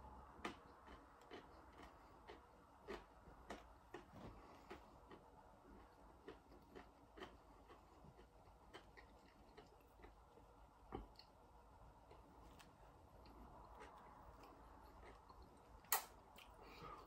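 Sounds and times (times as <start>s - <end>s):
chewing crispy food: 0.2s - 17.0s.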